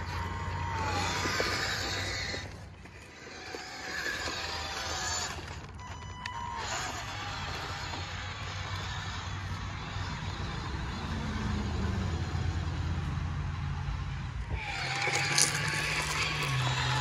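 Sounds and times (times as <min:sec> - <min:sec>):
toy machine motor hum: 0:00.0 - 0:11.2, 0:14.4 - 0:17.0
higher motor whine: 0:00.0 - 0:17.0.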